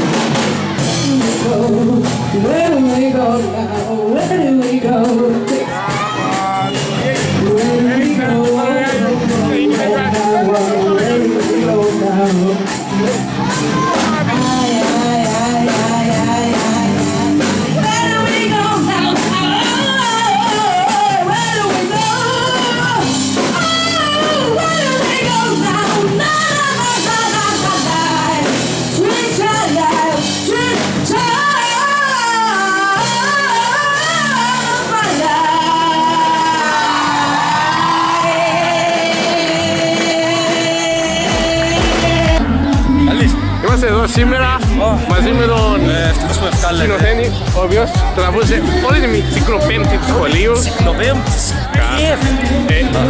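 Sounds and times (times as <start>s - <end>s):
live rock band playing: 0.0s - 53.0s
person singing: 0.8s - 53.0s.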